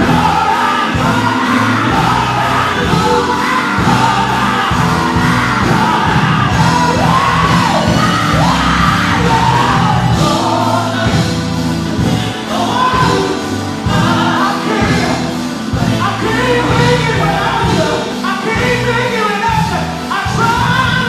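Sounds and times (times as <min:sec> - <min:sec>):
gospel band playing: 0:00.0 - 0:21.0
lead singer singing: 0:00.0 - 0:21.0.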